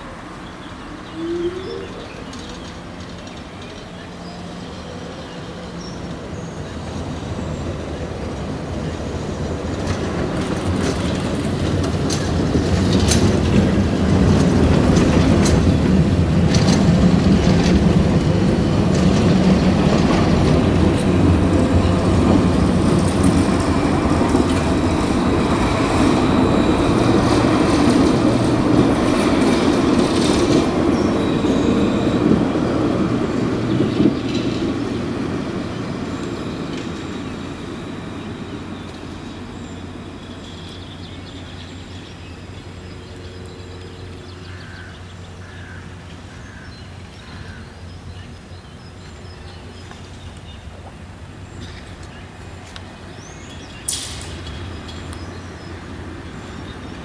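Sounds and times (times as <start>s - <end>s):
tram rumbling past: 0.0s - 57.0s
wheels clattering on rails: 1.2s - 43.8s, 46.0s - 57.0s.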